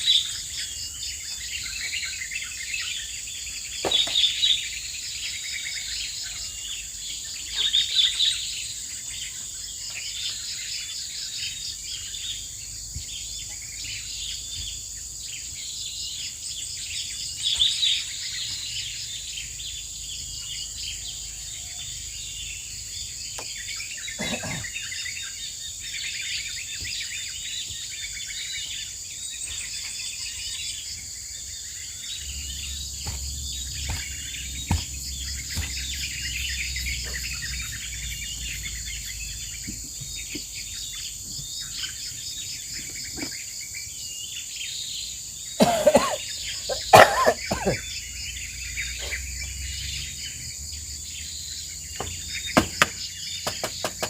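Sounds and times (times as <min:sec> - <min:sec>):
birds chirping: 0:00.0 - 0:54.0
insects buzzing: 0:00.0 - 0:54.0.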